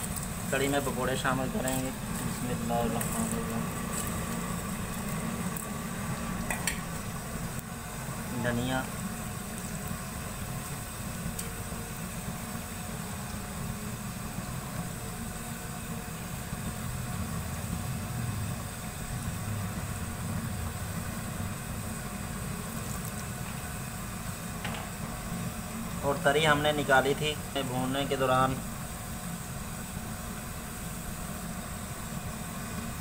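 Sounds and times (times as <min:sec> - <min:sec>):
stove burner rumbling: 0:00.0 - 0:33.0.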